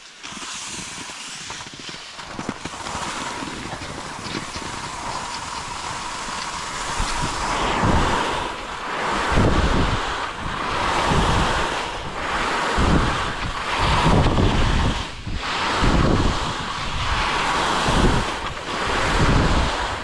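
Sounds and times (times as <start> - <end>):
wind rushing over microphone: 0.8 - 20.0.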